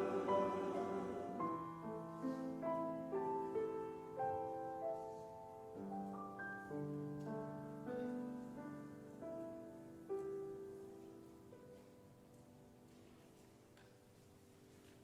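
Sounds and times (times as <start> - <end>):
soft slow piano: 0.0 - 15.0.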